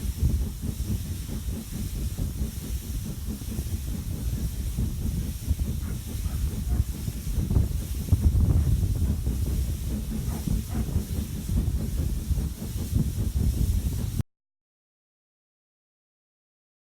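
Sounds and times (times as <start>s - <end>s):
steam hiss: 0.0s - 14.2s
steam train rumbling: 0.0s - 14.2s.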